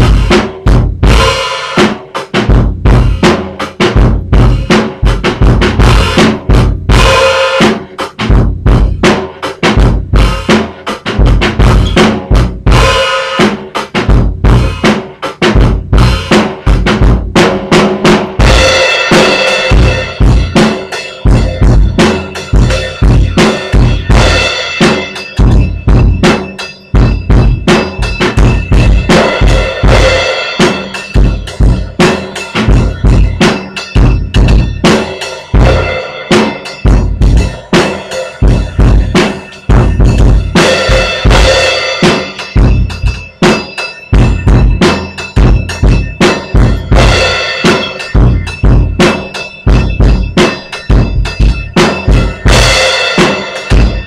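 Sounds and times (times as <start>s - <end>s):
bass drum and snare: 0.0s - 54.0s
cymbals washing: 1.0s - 17.2s, 18.1s - 54.0s.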